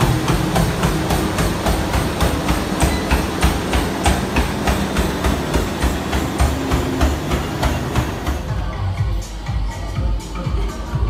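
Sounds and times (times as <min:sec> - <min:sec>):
footfalls pounding a treadmill: 0:00.0 - 0:09.2
treadmill motor rumbling: 0:00.0 - 0:11.0.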